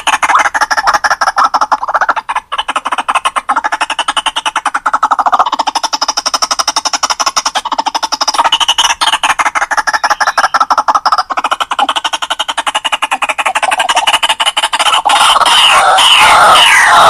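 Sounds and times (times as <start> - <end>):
waterhen calling harsh chatter: 0.0 - 17.0.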